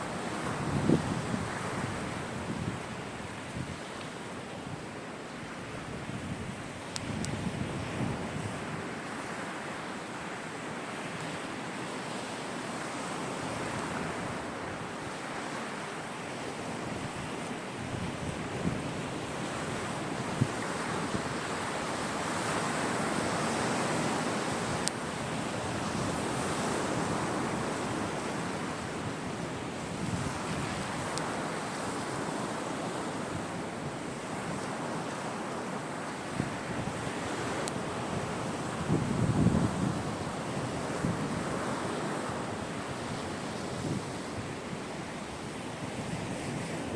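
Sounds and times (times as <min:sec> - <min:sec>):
sea surf breaking on beach: 0:00.0 - 0:46.9.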